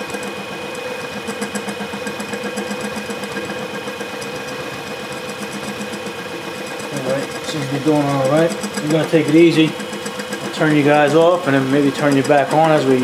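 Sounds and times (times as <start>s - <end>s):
cutter chattering on metal: 0.0s - 13.0s
milling machine motor whine: 0.0s - 13.0s.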